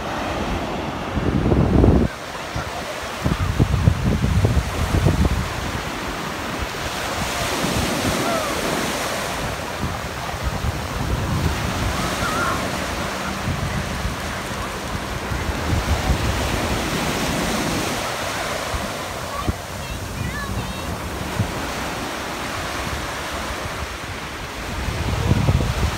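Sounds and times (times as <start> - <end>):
waves breaking on sandy beach: 0.0 - 25.9
wind buffeting microphone: 0.0 - 25.9.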